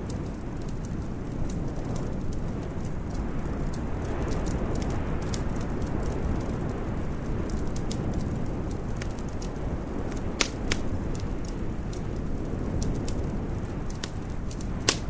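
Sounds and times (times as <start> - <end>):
steady low rumble: 0.0 - 15.0
wood fire crackling and popping: 0.0 - 15.0.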